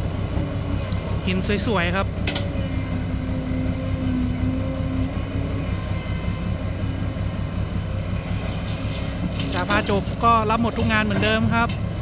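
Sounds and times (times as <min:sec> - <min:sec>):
excavator diesel engine running: 0:00.0 - 0:12.0
held whine: 0:00.0 - 0:12.0.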